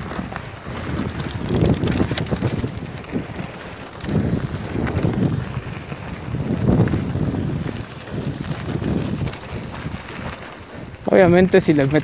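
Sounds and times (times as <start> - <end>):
bike clicks and rattles: 0.0 - 12.0
wind buffeting microphone: 0.0 - 12.0.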